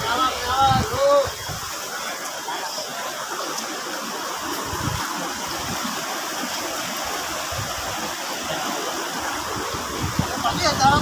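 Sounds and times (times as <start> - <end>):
river flowing over stones: 0.0 - 11.0.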